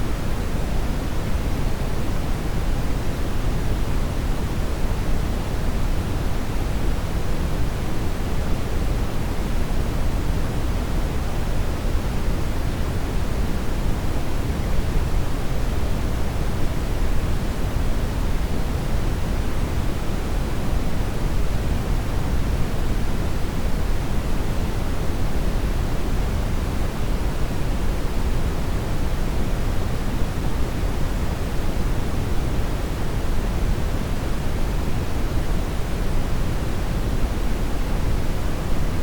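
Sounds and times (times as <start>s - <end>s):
steady colored noise hiss: 0.0s - 39.0s.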